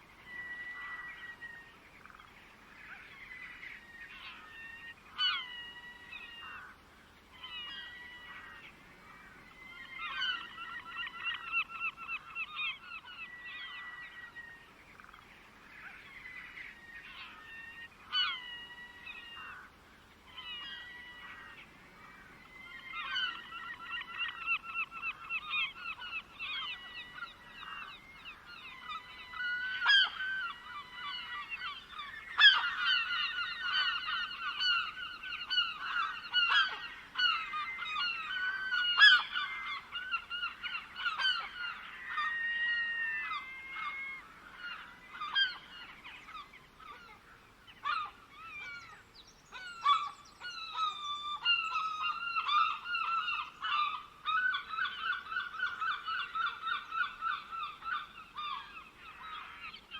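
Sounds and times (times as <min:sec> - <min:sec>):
flock of birds calling: 0:00.0 - 0:59.9.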